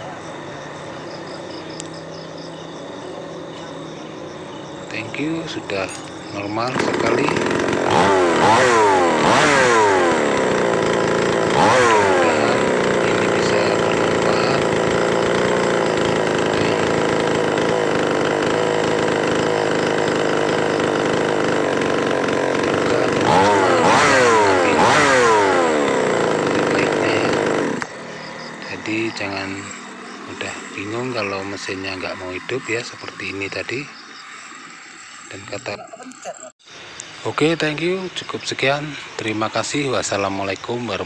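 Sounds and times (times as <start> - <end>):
chainsaw engine revving: 0.0 - 36.0, 36.7 - 41.0.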